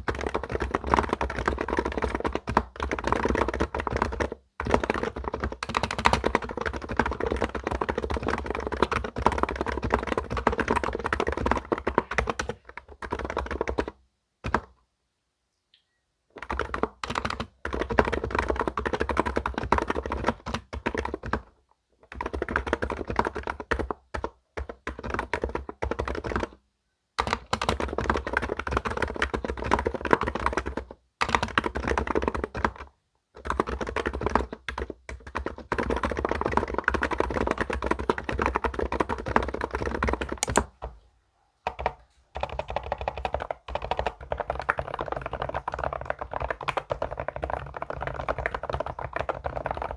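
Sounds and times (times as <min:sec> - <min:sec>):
computer keyboard typing: 0:00.0 - 0:14.7, 0:16.3 - 0:21.5, 0:22.1 - 0:26.6, 0:27.2 - 0:40.7, 0:41.7 - 0:49.9.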